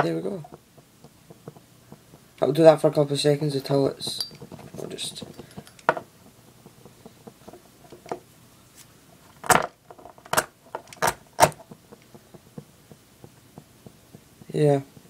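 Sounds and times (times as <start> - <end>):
faint handling noise: 0.0 - 15.0.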